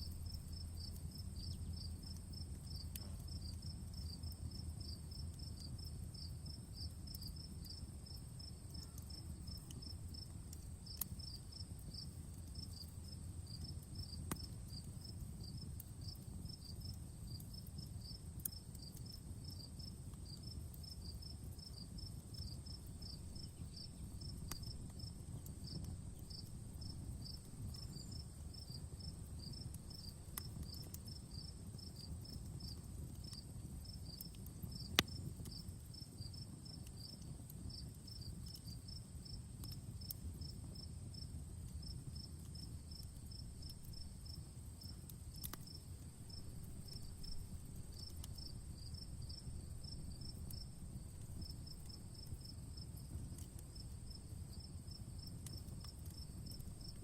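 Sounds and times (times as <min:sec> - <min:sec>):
campfire crackling and popping: 0:00.0 - 0:57.0
crickets chirping: 0:00.0 - 0:57.0.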